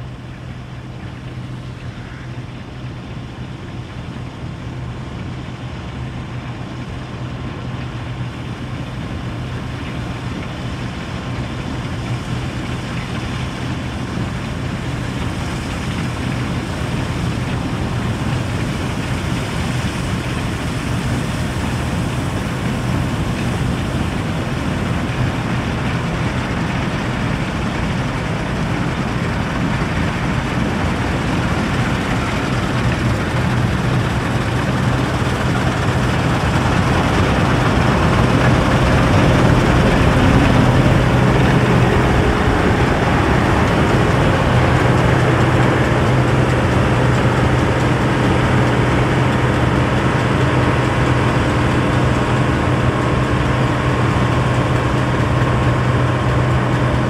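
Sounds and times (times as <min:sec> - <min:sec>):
low engine hum: 0:00.0 - 0:57.0
rushing harvesting machinery: 0:00.0 - 0:57.0.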